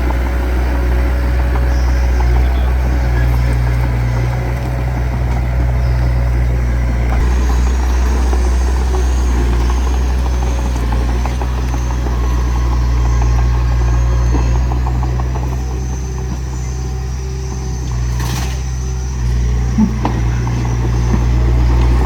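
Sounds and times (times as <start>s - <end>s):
faint high whine: 0.0s - 22.0s
heavy diesel engine running: 0.0s - 22.0s.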